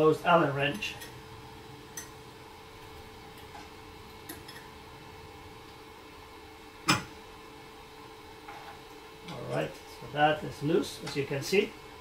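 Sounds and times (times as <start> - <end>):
printer cooling fan running: 0.0 - 12.0.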